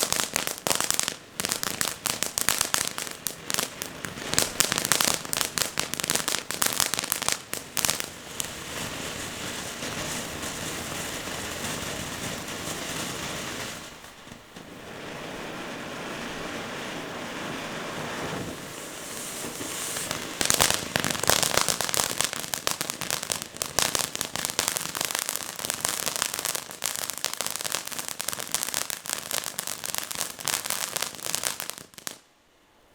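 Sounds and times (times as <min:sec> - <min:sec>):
firework fountain crackling and hissing: 0:00.0 - 0:32.3.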